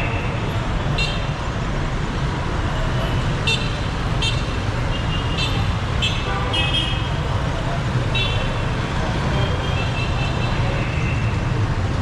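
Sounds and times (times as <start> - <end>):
dense street traffic: 0.0 - 12.0.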